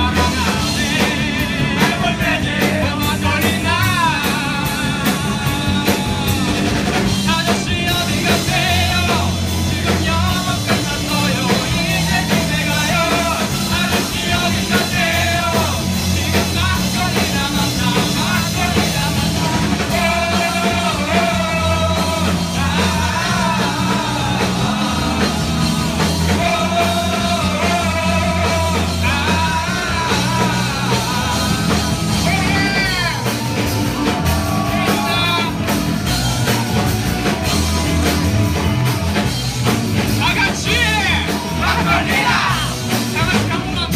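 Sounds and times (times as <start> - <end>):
person singing: 0.0 - 35.8
live rock band playing: 0.0 - 43.9.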